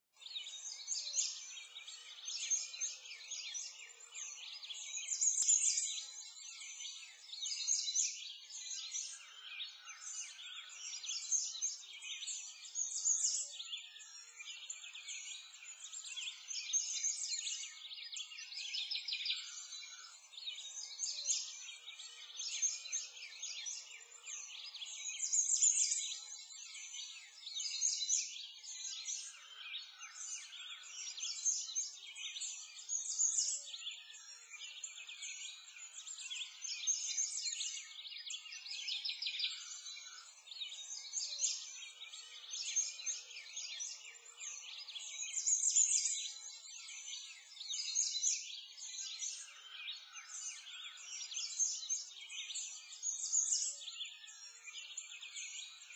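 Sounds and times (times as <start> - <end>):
birds chirping and singing: 0.2 - 55.9.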